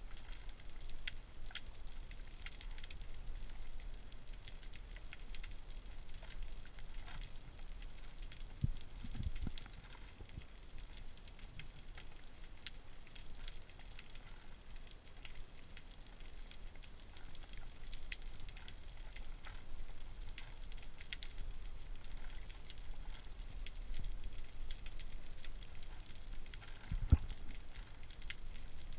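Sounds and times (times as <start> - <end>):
low rumble of water: 0.0 - 28.9
underwater crackle of clicks: 0.0 - 28.9.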